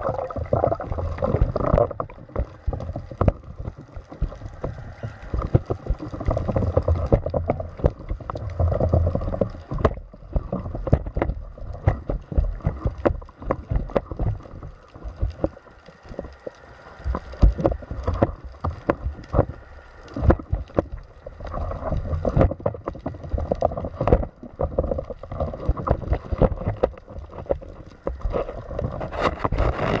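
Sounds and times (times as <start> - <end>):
water sloshing and gurgling: 0.0 - 30.0.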